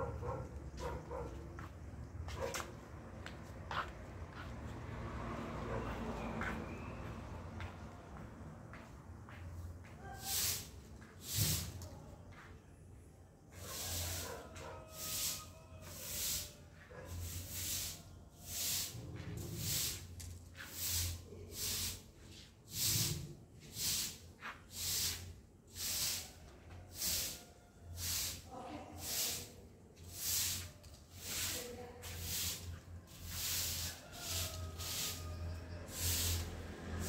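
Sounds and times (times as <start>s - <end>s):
broom sweeping wet paving: 0.0s - 8.2s, 9.4s - 12.6s, 13.4s - 37.0s.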